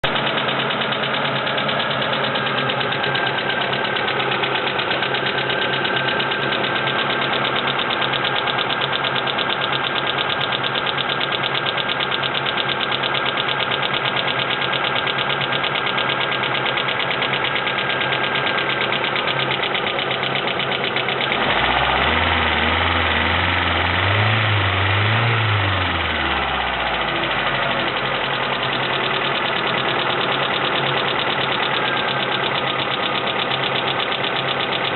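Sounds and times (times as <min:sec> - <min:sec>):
fast even lifter ticking: 0:00.0 - 0:21.8, 0:26.8 - 0:34.9
car engine running: 0:00.0 - 0:34.9.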